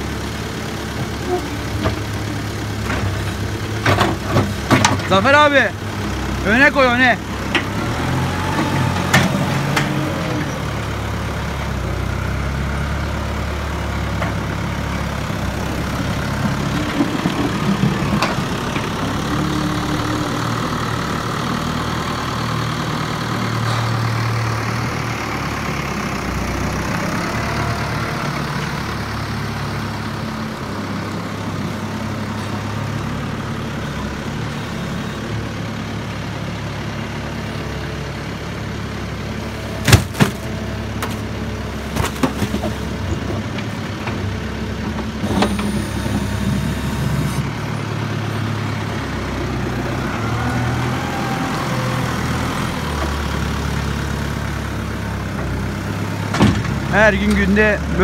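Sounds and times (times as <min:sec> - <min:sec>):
tractor diesel engine revving: 0:00.0 - 0:42.0, 0:42.8 - 0:58.0.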